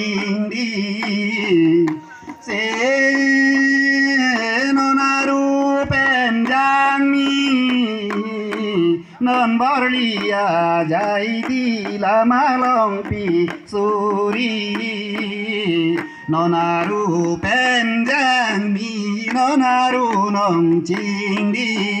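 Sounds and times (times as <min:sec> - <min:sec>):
light clicking percussion: 0:00.0 - 0:22.0
man and woman singing: 0:00.0 - 0:22.0.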